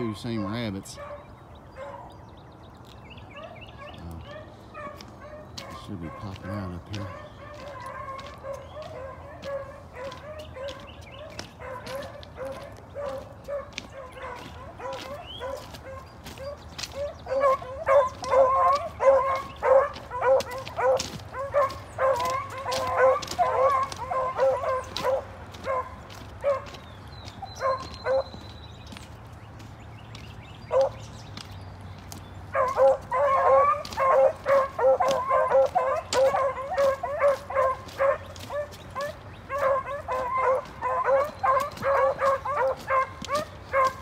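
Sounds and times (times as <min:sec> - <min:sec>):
hounds baying: 0:00.0 - 0:02.5, 0:03.1 - 0:44.0.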